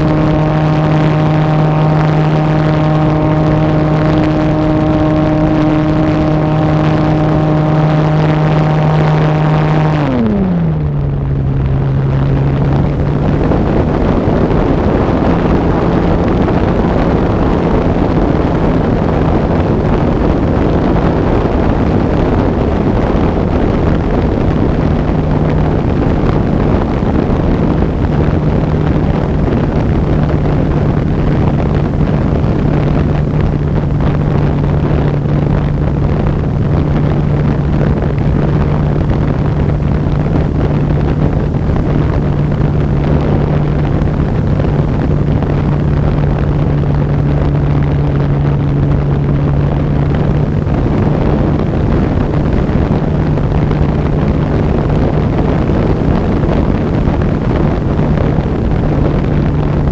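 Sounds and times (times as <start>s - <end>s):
steady low hum: 0.0s - 59.9s
wind rushing over camera: 0.0s - 59.9s.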